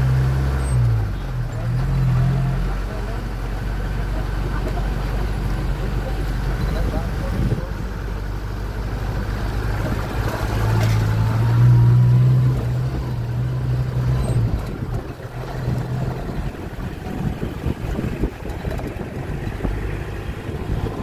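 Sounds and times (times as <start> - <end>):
road and wind noise: 0.0 - 21.0
vehicle engine drone: 0.0 - 21.0.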